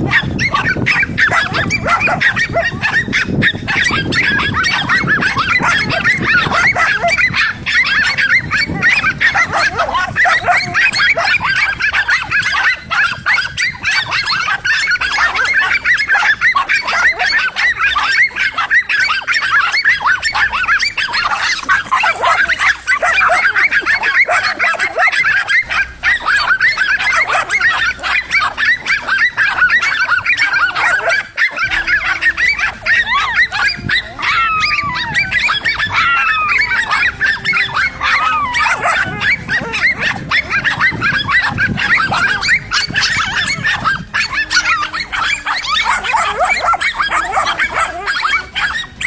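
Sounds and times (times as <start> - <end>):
dogs barking and yelping: 0.0 - 49.0.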